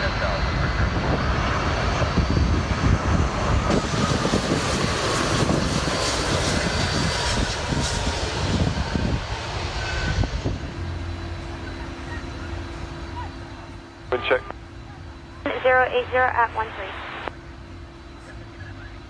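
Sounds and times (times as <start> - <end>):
jet airliner engines passing: 0.0 - 19.0.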